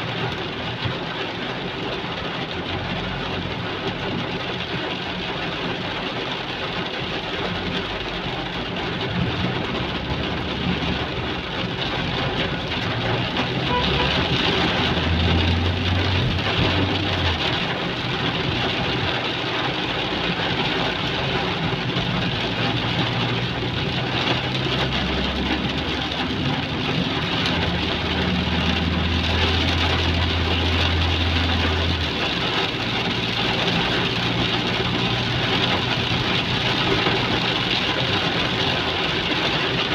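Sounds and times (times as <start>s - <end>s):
heavy rain falling: 0.0s - 39.9s
vehicle engines humming: 0.0s - 39.9s.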